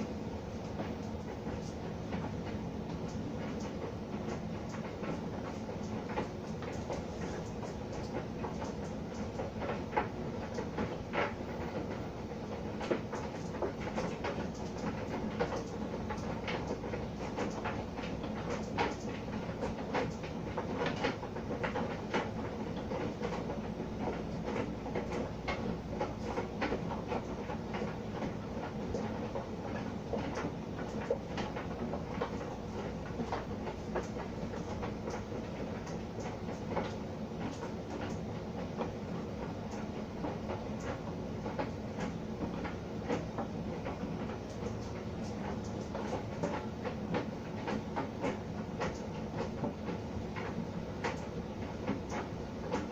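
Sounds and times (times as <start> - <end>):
laundry clicking in drum: 0.0 - 52.9
tumble dryer humming: 0.0 - 52.9.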